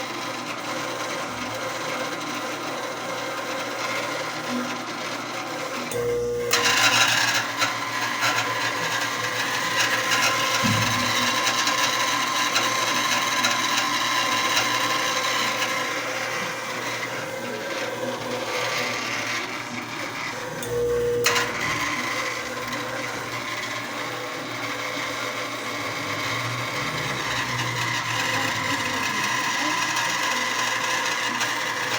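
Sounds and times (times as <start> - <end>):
washing machine grinding: 0.0 - 31.9.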